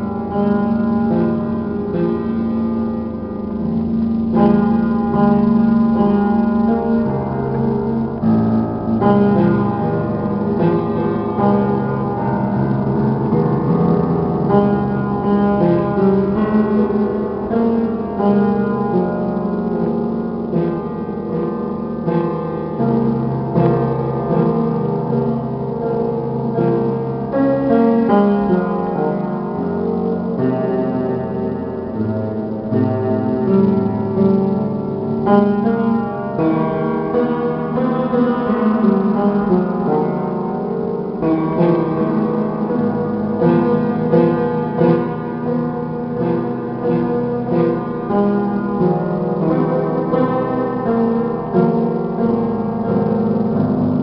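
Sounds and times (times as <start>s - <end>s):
piano playing: 0.0s - 54.0s.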